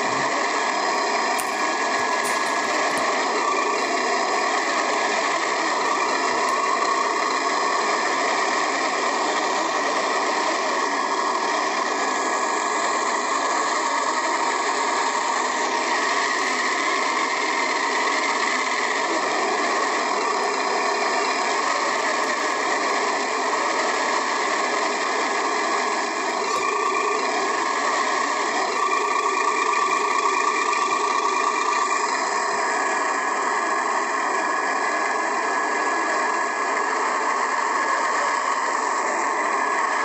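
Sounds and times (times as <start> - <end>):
toy car electric motor whine: 0.0 - 40.0.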